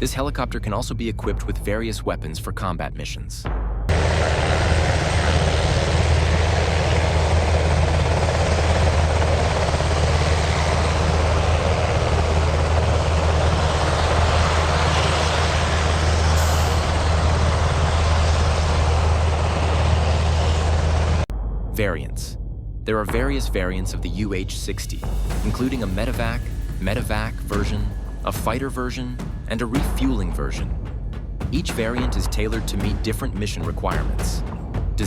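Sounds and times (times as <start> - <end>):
helicopter rotor and turbine: 3.9 - 21.3, 23.9 - 35.0.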